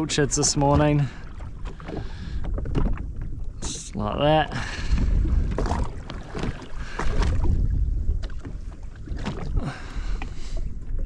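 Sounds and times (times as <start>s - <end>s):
water slapping against hull: 0.0s - 11.0s
wind buffeting microphone: 0.0s - 11.0s.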